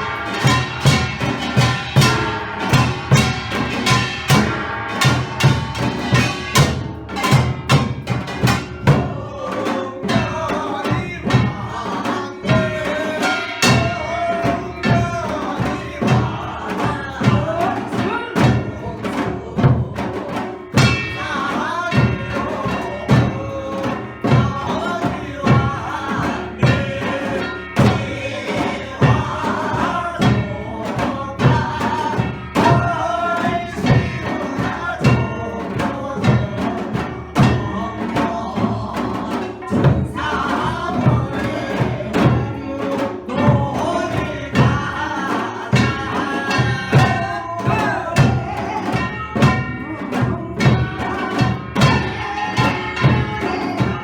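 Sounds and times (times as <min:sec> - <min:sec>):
people singing: 0:00.0 - 0:54.0
percussion ensemble drums and gongs: 0:00.0 - 0:54.0.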